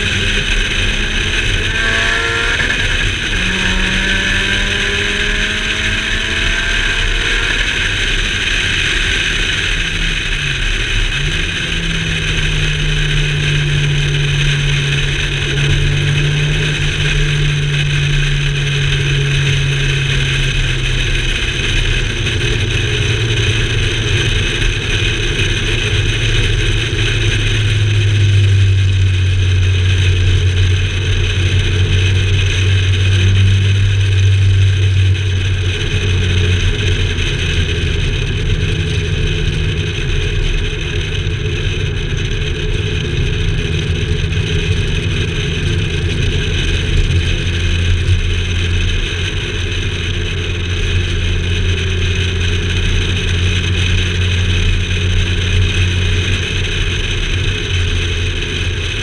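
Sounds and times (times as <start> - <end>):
car engine and tyre drone: 0.0 - 59.0.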